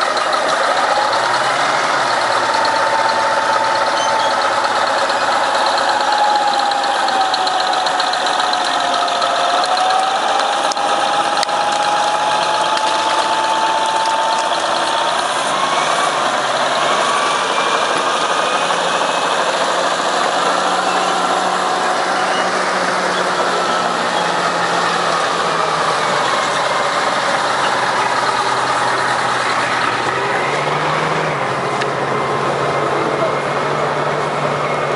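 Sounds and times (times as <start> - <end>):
heavy vehicle engine running: 0.0 - 34.9
whine rising in pitch: 1.0 - 34.9.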